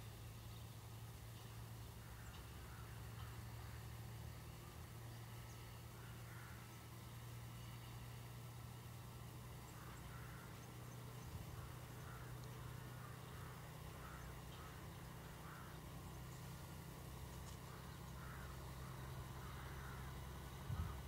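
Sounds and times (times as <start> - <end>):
locomotive diesel engine droning: 0.0 - 21.0
birds calling: 0.1 - 21.0.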